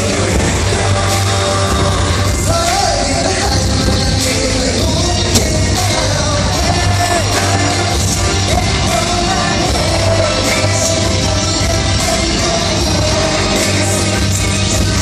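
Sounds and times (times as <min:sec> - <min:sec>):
pop concert music: 0:00.0 - 0:15.0.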